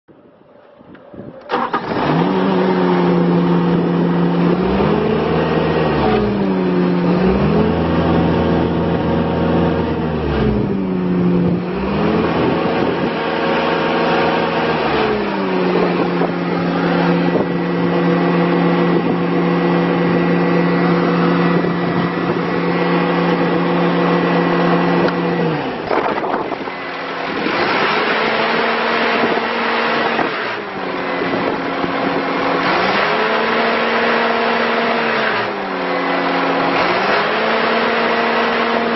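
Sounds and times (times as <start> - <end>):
diesel engine starting and running: 0.1 - 38.9.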